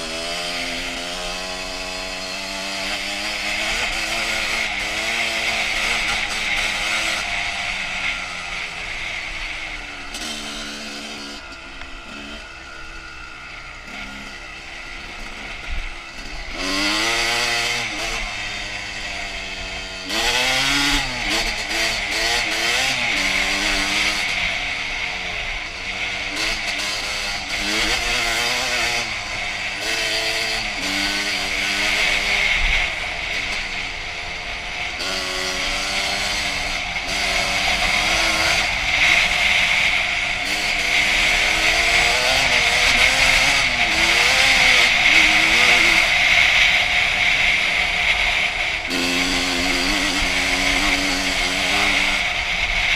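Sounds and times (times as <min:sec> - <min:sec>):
dirt bike engine revving: 0:00.0 - 0:52.9
gear changes: 0:00.0 - 0:52.9.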